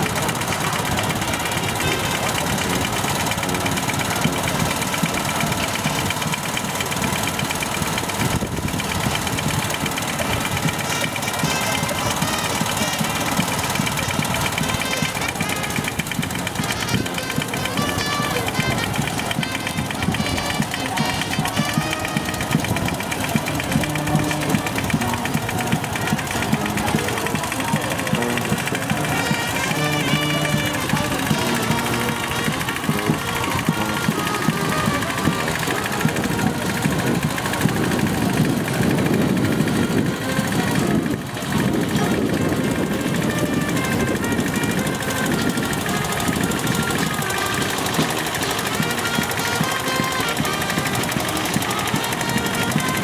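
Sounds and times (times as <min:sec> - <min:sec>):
small engine running: 0:00.0 - 0:53.0
voices talking: 0:00.0 - 0:53.0.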